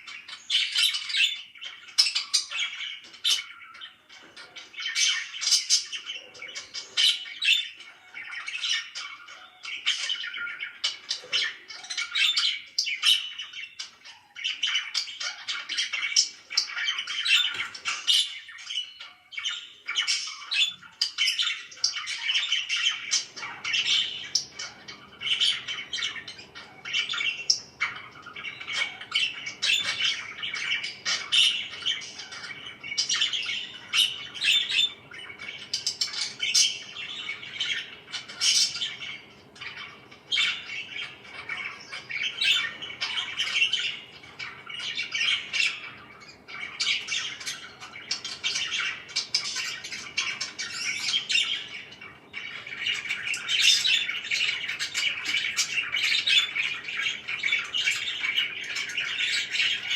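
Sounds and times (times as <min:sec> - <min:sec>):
parakeets chirping and squawking: 0:00.0 - 0:59.9.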